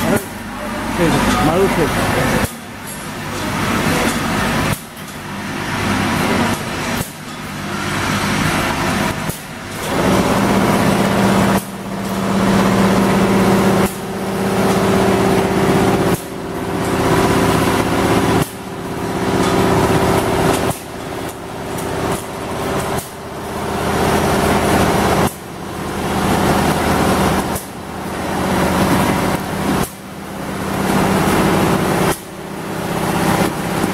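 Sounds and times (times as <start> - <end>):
filling machine motor hum: 0.0 - 33.9.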